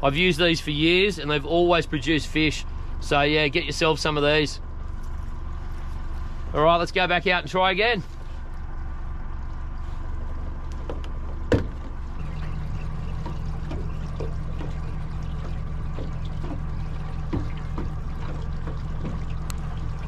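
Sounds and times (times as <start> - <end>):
outboard motor running: 0.0 - 20.0
water splashing along hull: 0.0 - 20.0.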